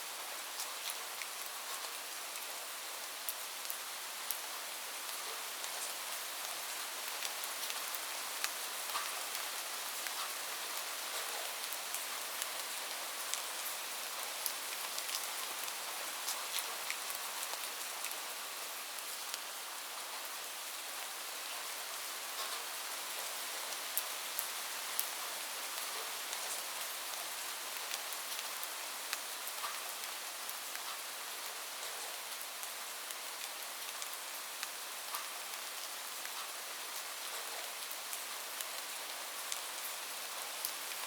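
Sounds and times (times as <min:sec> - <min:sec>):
steady rain on a roof: 0:00.0 - 0:41.0.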